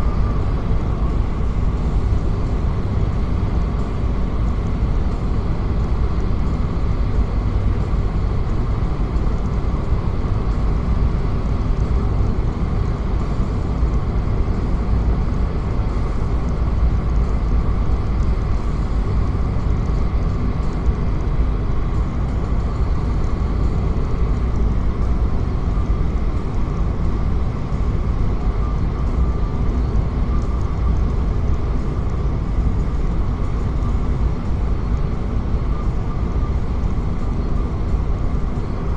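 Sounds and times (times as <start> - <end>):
vehicle road and engine noise: 0.0 - 38.9.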